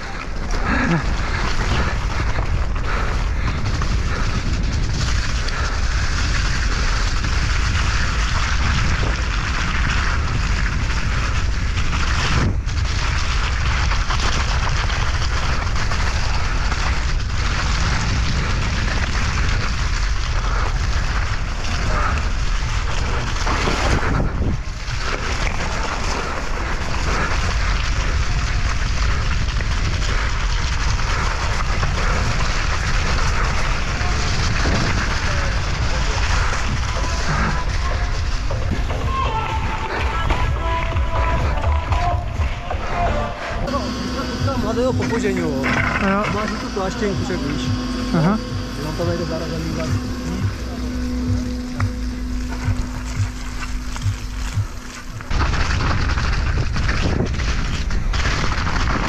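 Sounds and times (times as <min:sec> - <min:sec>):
wind buffeting microphone: 0:00.0 - 0:43.7, 0:49.9 - 0:59.0.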